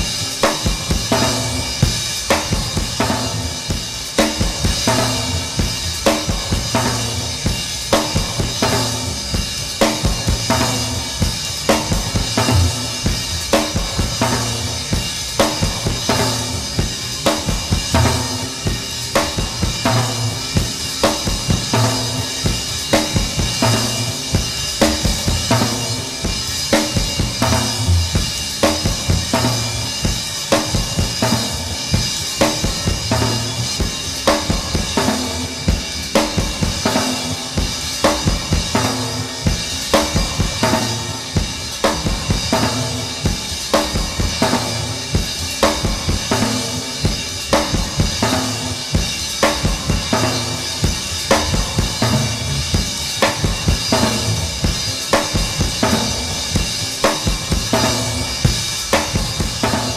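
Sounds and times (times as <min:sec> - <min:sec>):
bass drum beat: 0:00.0 - 0:59.9
cymbal wash: 0:00.0 - 0:59.9.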